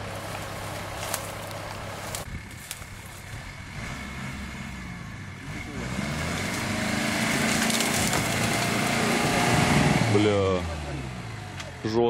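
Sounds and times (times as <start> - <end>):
off-road engine revving hard: 0.0 - 12.0.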